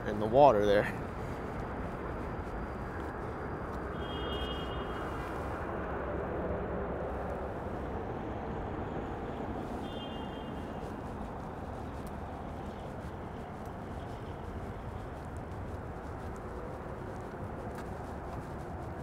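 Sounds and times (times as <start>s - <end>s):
distant city traffic rumble: 0.0s - 19.0s.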